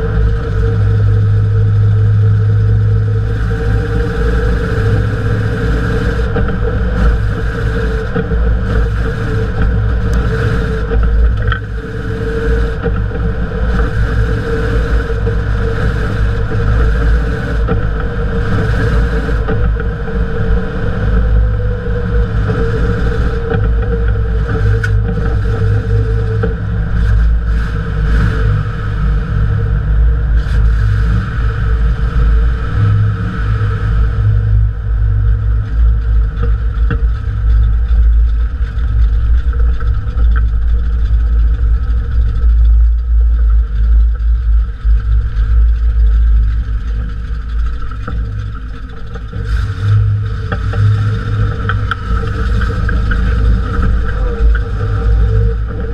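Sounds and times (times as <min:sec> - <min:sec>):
car engine running: 0:00.0 - 0:55.9
tyre road noise: 0:00.0 - 0:55.9.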